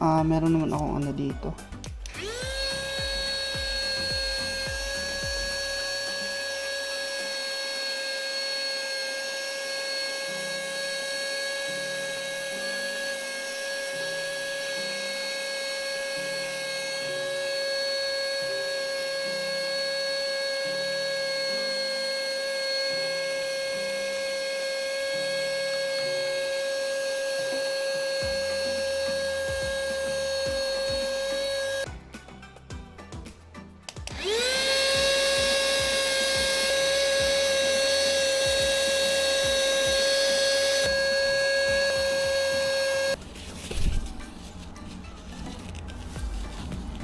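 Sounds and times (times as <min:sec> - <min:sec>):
small electric motor whining: 0:01.9 - 0:31.9, 0:34.0 - 0:47.0.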